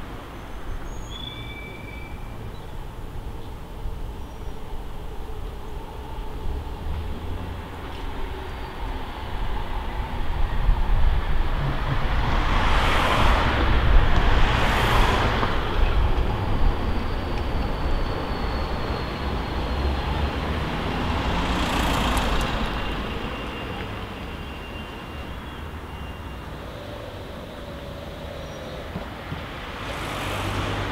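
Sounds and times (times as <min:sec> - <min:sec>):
street traffic: 0:00.0 - 0:30.9
tram rumbling on rails: 0:00.0 - 0:30.9.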